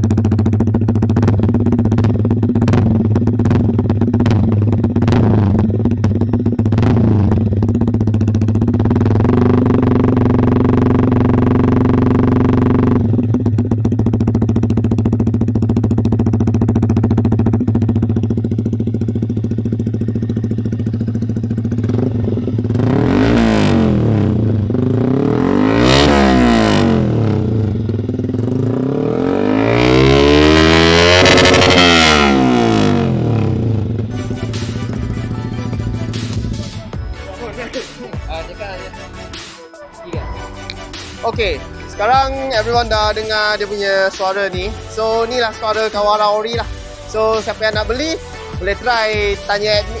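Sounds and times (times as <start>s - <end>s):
motorcycle engine idling and revving: 0.0s - 39.4s, 40.0s - 50.0s.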